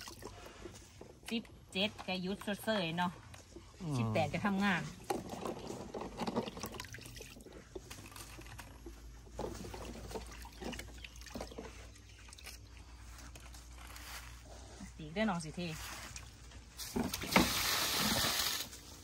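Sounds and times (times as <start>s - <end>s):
water splashing and trickling: 0.0s - 14.4s, 15.8s - 19.0s.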